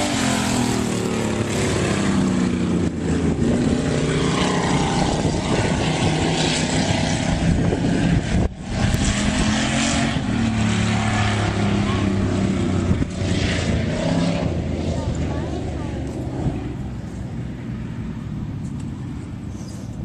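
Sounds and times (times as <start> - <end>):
stock car engine running: 0.0 - 20.0.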